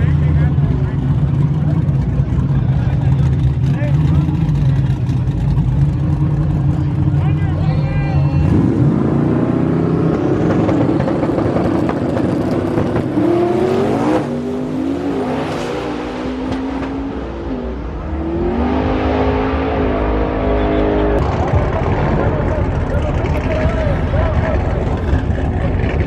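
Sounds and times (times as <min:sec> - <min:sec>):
truck engine revving and accelerating: 0:00.0 - 0:26.0.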